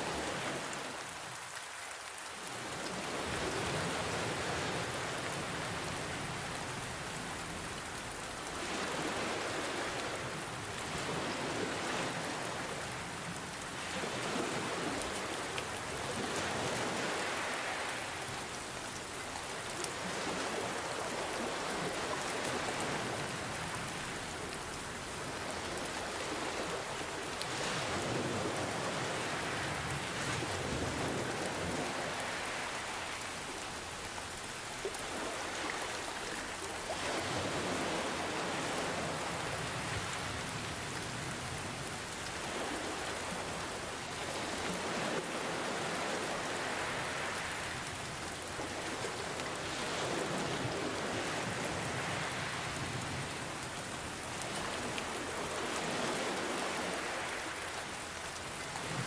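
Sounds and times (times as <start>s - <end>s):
steady rain: 0.0s - 59.0s
ocean waves washing in: 2.5s - 59.0s.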